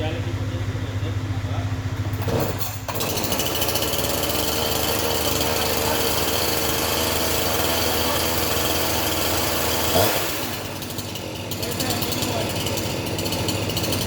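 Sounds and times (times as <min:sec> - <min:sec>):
chainsaw running at high throttle: 0:01.9 - 0:14.0.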